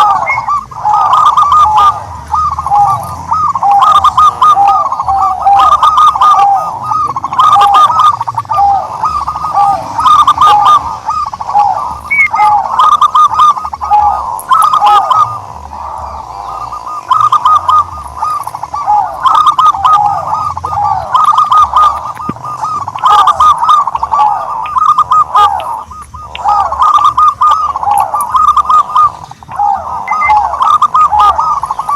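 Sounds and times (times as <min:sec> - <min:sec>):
turtledoves calling: 0:00.0 - 0:31.9.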